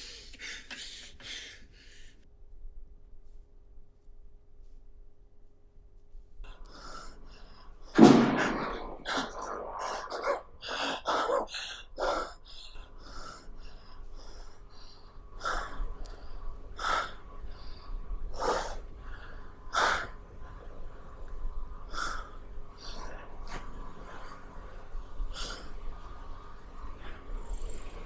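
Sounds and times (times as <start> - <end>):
breathy puffs of breathing: 0.0 - 2.3, 6.4 - 28.0.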